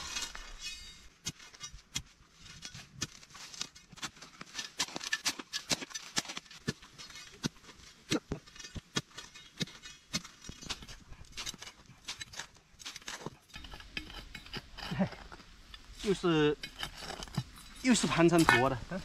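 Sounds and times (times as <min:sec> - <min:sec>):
spade chipping at hard soil: 0:00.0 - 0:18.8
clods and grit rattling: 0:02.4 - 0:19.0.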